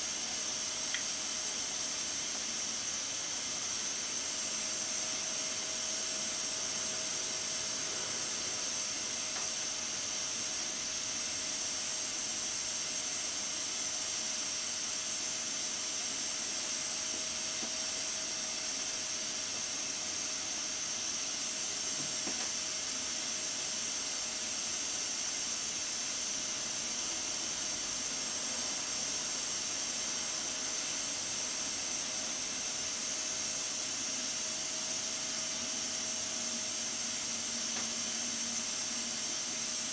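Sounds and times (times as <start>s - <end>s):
steam hissing from pressure cooker: 0.0s - 39.9s.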